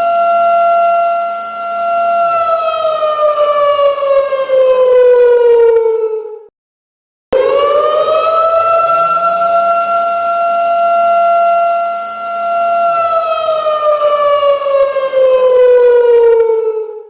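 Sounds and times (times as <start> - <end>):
siren wailing: 0.0 - 6.5, 7.3 - 17.0.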